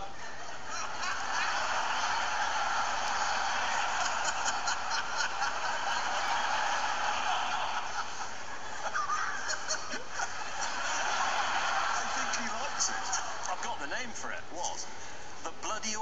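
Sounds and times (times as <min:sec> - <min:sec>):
audience laughing: 0:00.0 - 0:13.8.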